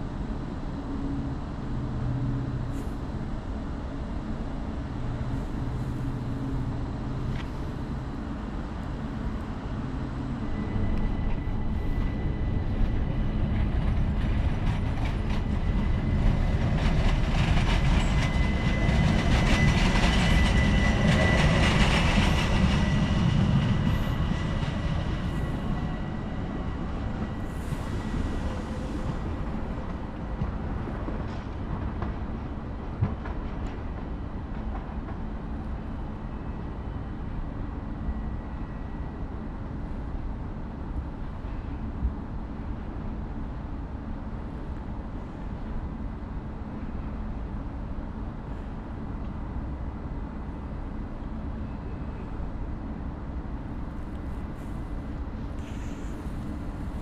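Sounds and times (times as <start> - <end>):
high-pitched train whine: 0.0 - 57.0
train wheels rumbling on rails: 0.0 - 57.0.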